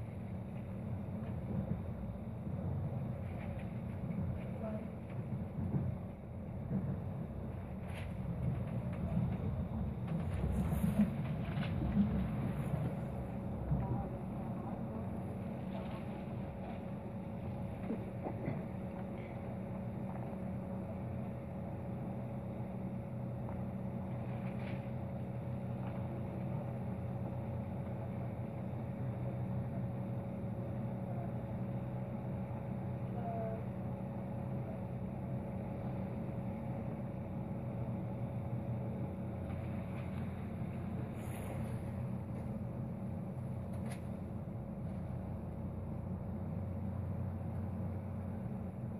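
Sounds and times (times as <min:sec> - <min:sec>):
faint steady hum: 0:00.0 - 0:48.9
train rumbling on rails: 0:00.0 - 0:48.9.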